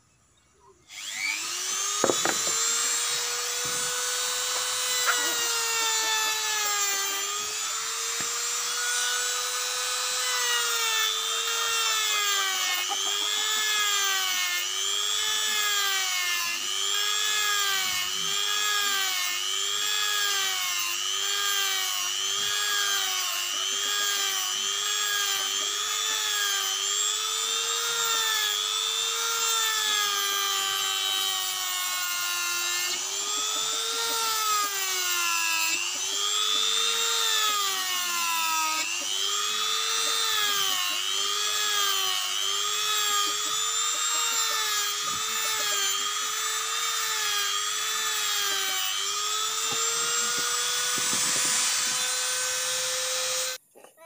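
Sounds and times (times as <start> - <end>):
rotary tool whining: 0.0 - 53.6.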